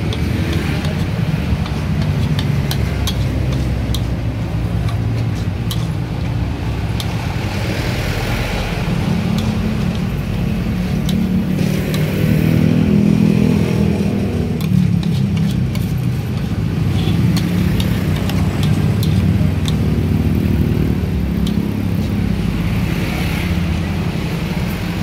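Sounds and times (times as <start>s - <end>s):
metal spatula scraping wok: 0.0s - 23.1s.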